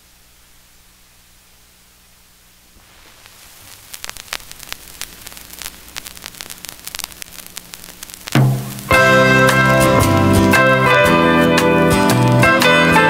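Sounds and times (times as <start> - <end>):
faint hiss: 0.0 - 10.6
mains hum: 0.0 - 11.3
vinyl record crackle and pops: 0.0 - 13.0.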